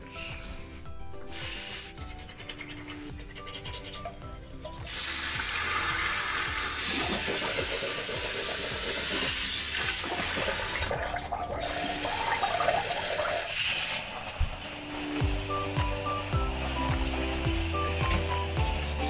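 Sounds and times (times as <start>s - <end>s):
water running from a tap: 1.3s - 19.0s.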